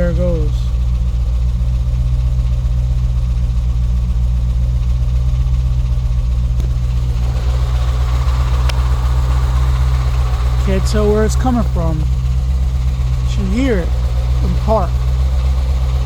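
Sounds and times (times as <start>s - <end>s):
engine idling: 0.0s - 16.0s
rhythmic engine knock: 0.0s - 16.0s
rough mid-pitched rattle: 0.0s - 16.0s.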